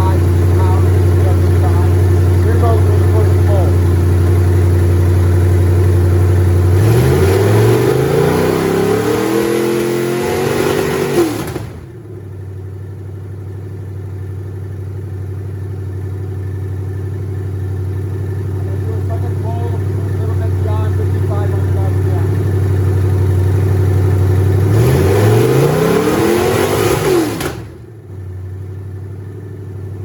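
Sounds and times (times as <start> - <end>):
engine idling and revving: 0.0 - 30.0.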